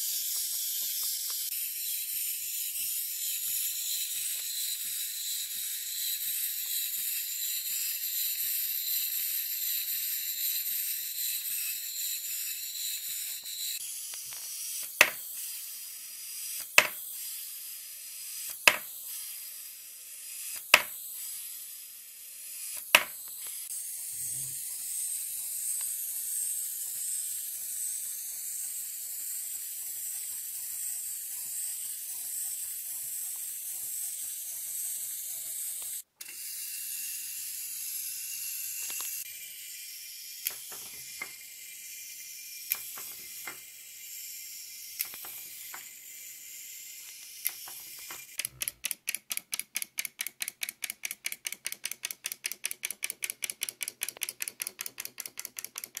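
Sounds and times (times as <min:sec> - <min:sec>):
spring motor whirring: 0:00.0 - 0:56.0
wind-up toy clicking: 0:00.0 - 0:56.0.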